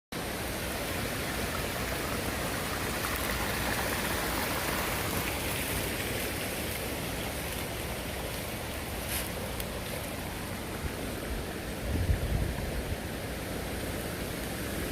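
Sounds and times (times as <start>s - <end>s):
steady rushing water noise: 0.1s - 14.9s.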